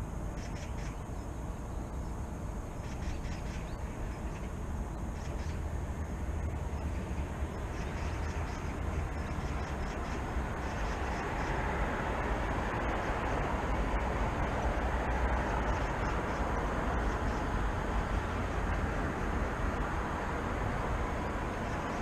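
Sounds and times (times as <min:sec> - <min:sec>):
urban traffic rumble: 0:00.0 - 0:22.0
vehicle passing: 0:04.3 - 0:22.0.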